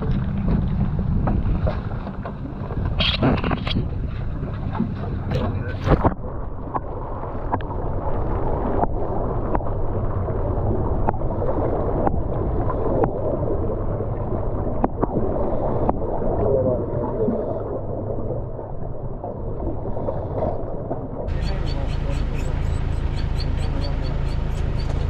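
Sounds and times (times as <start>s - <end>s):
water rushing along boat hull: 0.0s - 25.0s.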